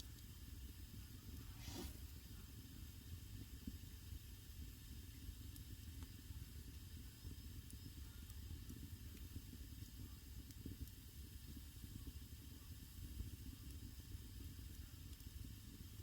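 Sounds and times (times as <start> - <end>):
fire crackles: 0.0 - 16.0
wood fire hissing and rumbling: 0.0 - 16.0.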